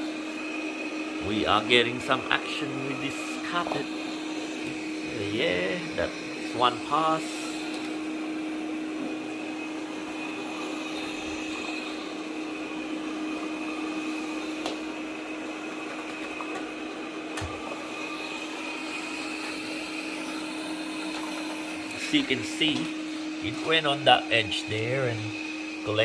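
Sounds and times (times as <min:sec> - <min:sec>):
robot vacuum cleaner humming: 0:00.0 - 0:26.0.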